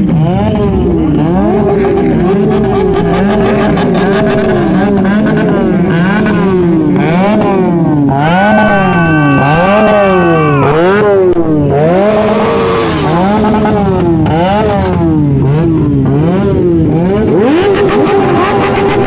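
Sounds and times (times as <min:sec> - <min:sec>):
superbike engine revving: 0:00.0 - 0:19.0.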